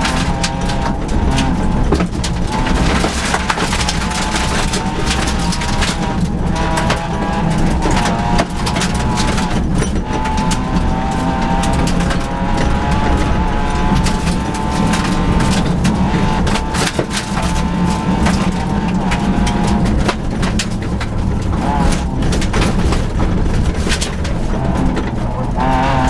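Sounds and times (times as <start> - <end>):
car engine at high revs: 0.0 - 26.0
gravel clattering against underbody: 0.0 - 26.0.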